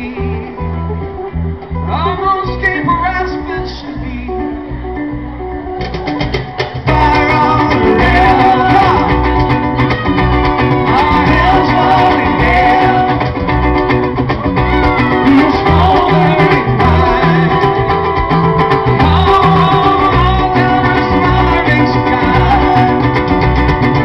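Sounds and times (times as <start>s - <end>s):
acoustic band playing: 0.0s - 24.0s
person singing: 0.0s - 24.0s.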